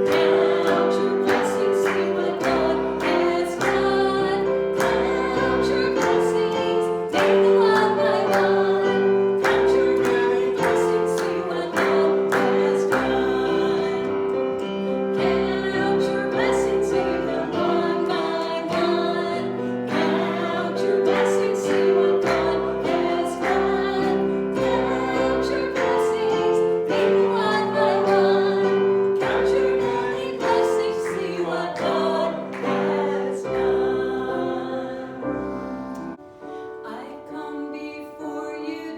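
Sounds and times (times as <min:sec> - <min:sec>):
group singing a hymn: 0:00.0 - 0:36.2
piano accompaniment: 0:00.0 - 0:38.9.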